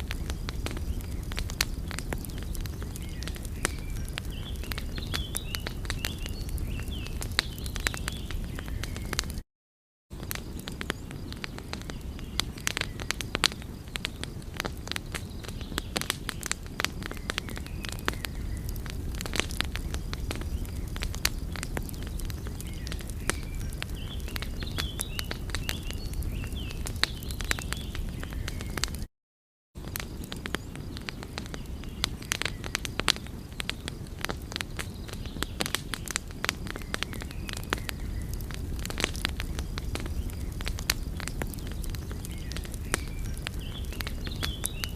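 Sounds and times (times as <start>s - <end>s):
wood fire crackling: 0.0s - 9.4s, 10.1s - 29.1s, 29.8s - 44.9s.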